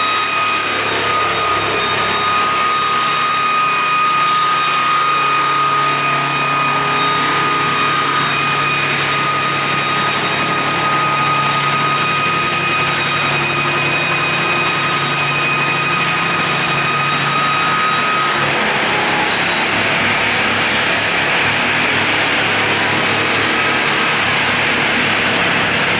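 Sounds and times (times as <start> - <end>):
circular saw blades whining: 0.0 - 25.9.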